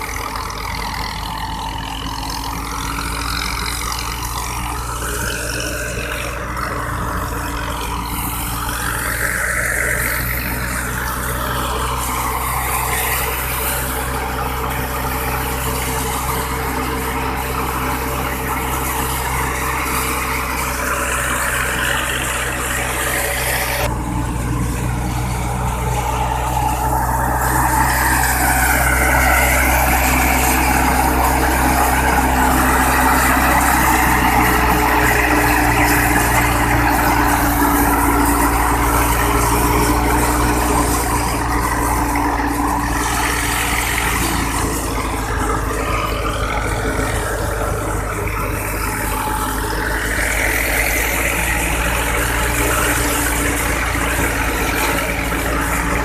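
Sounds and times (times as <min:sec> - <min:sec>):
thresher and engine running: 0:00.0 - 0:56.0.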